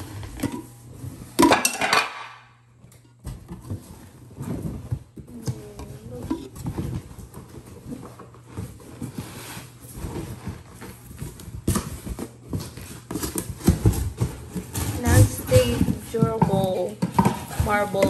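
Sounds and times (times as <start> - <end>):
rustling: 3.5 - 18.0.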